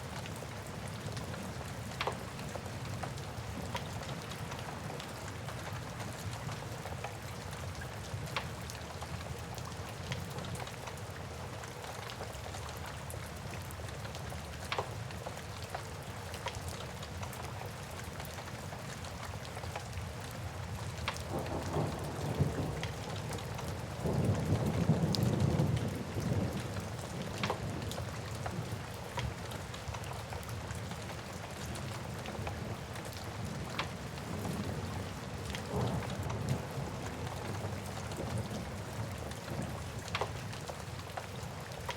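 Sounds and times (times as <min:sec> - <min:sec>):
steady rain: 0:00.0 - 0:41.9.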